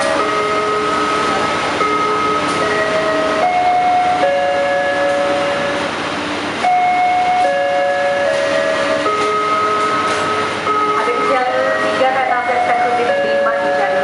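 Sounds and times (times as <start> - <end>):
train wheels rumbling and clicking: 0.0 - 14.0.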